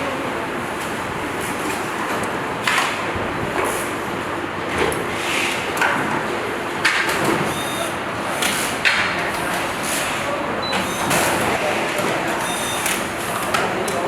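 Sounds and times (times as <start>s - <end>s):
factory floor noise: 0.0s - 14.0s.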